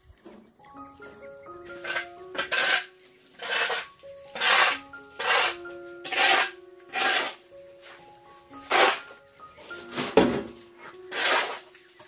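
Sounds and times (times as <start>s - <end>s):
metal shovel scraping floor: 1.7s - 12.0s.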